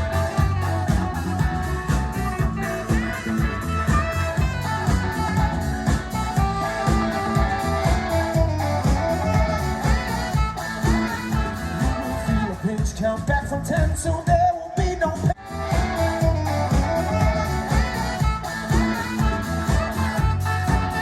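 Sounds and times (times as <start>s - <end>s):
guitar: 0.0s - 14.1s, 15.4s - 21.0s
bass: 0.0s - 21.0s
steady drum beat: 0.0s - 21.0s.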